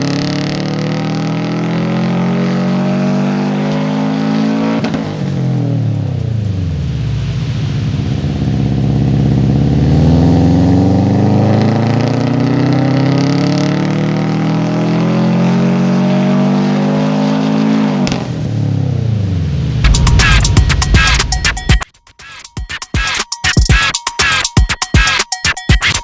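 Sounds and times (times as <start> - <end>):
car engine at full throttle: 0.0 - 21.5.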